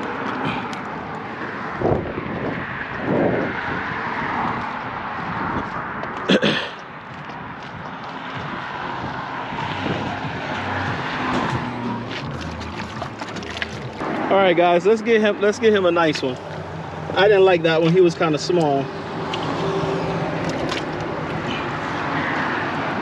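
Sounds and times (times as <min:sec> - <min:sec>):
traffic rushing past: 0:00.0 - 0:23.0.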